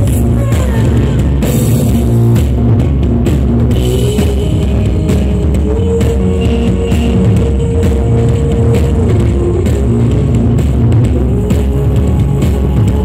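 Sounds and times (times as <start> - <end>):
bass guitar: 0.0 - 13.0
distorted guitar: 0.0 - 13.0
drum kit with cymbal hits: 0.0 - 13.0.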